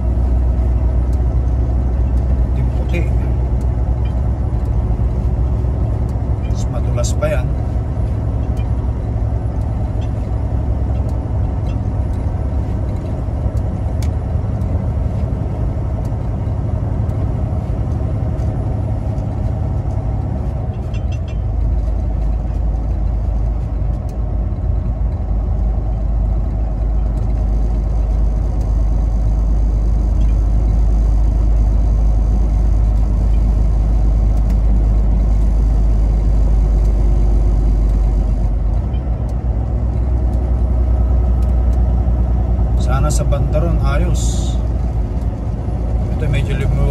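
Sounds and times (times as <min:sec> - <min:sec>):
road noise: 0:00.0 - 0:46.9
truck engine drone: 0:00.0 - 0:46.9.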